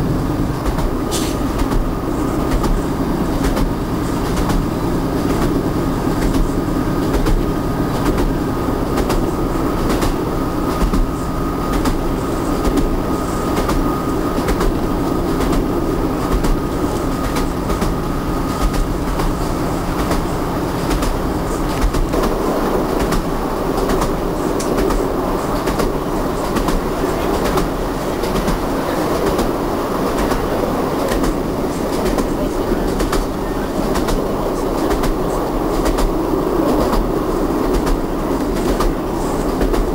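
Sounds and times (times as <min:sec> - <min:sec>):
train rolling rumble: 0:00.0 - 0:39.9
wheels clacking over rail joints: 0:00.0 - 0:39.9.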